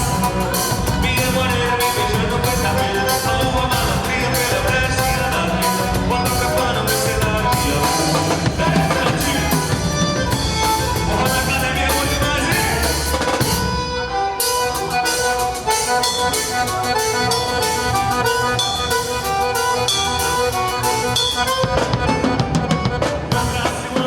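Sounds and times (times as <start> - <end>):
song with singing and drum beat: 0.0 - 24.0.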